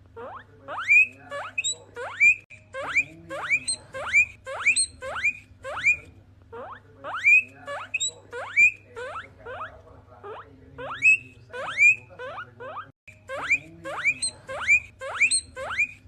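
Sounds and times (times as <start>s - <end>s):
guinea pig wheeking: 0.0s - 16.0s.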